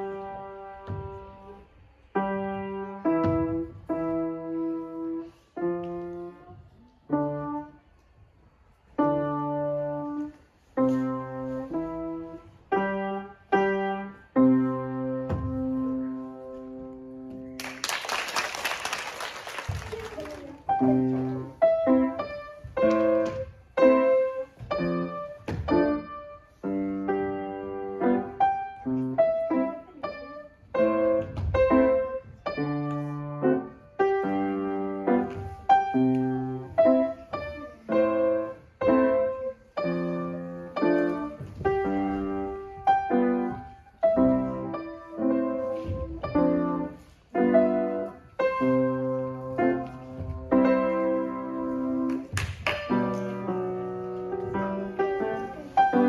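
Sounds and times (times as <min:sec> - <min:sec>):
grand piano playing: 0:00.0 - 0:06.5, 0:08.9 - 0:18.0, 0:19.8 - 0:56.0.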